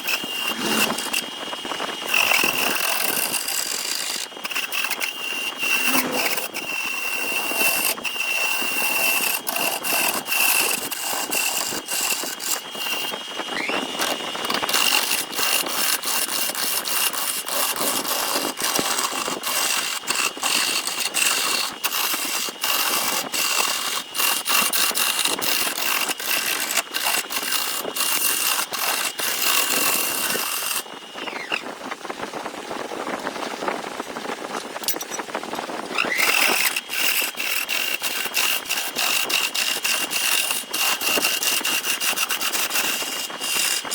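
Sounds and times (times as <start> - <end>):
power tool motor whining: 0.0 - 31.8, 35.9 - 43.9.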